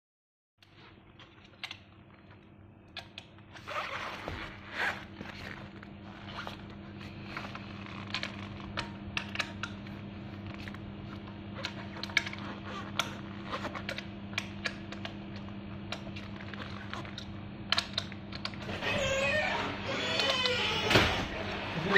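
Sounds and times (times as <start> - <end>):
steady low hum: 0.6 - 21.9.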